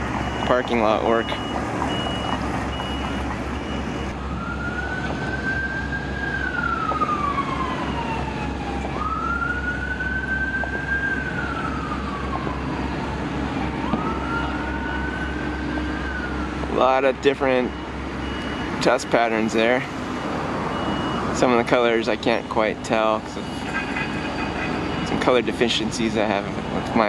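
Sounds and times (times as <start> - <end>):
truck reversing beeper: 0.0 - 8.0, 8.7 - 27.0
emergency siren wailing: 0.0 - 27.0
low vehicle rumble: 0.0 - 27.0.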